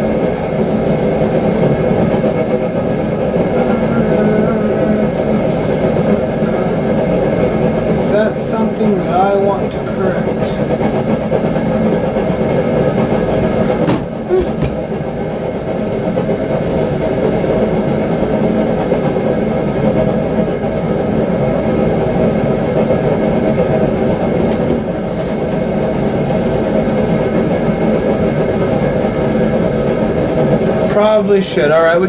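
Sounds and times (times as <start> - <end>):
forge roaring with low hum: 0.0 - 32.0.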